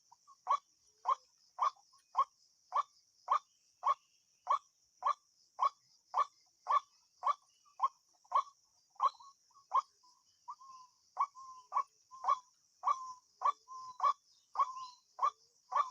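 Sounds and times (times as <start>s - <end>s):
faint high insect trill: 0.0s - 15.9s.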